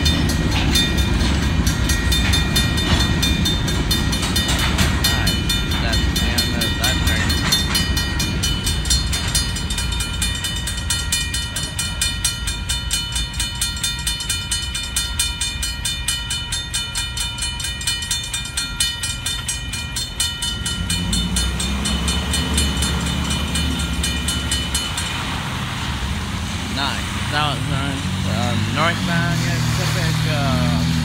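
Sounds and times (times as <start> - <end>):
freight train rumbling: 0.0 - 31.0
railroad crossing bells ringing: 0.0 - 31.0
road traffic: 0.0 - 31.0.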